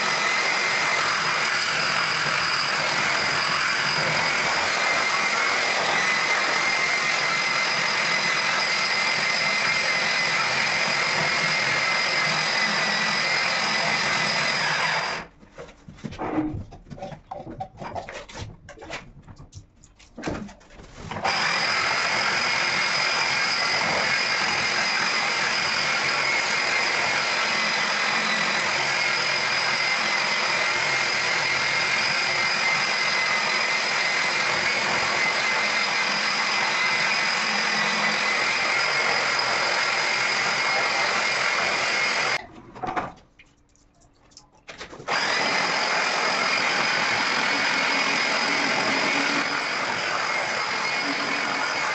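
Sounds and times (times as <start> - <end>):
polisher motor whine: 0.0 - 15.2, 21.2 - 42.4, 45.1 - 51.9.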